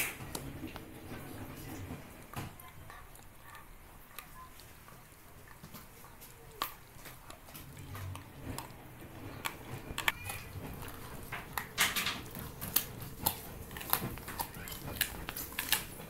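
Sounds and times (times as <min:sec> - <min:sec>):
dog gnawing hard chew: 0:00.0 - 0:16.0.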